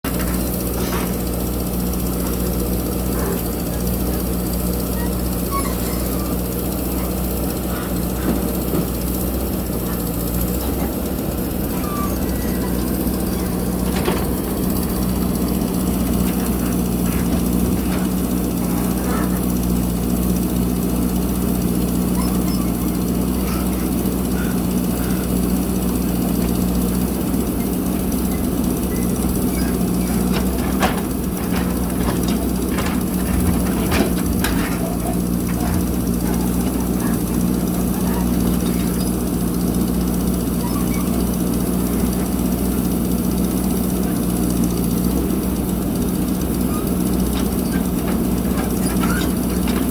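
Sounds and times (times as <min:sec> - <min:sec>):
backhoe diesel engine running: 0:00.0 - 0:49.9.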